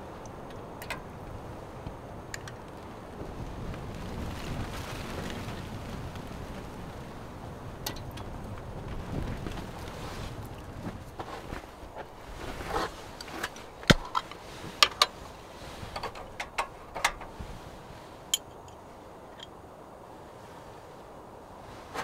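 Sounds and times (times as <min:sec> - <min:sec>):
faint steady background noise: 0:00.0 - 0:22.0.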